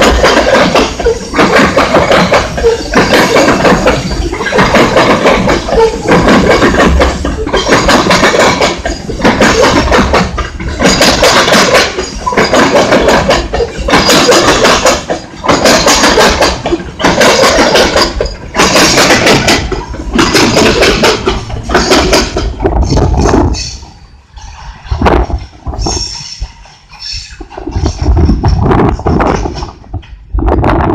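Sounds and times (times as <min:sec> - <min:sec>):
train wheels clattering: 0:00.0 - 0:30.9.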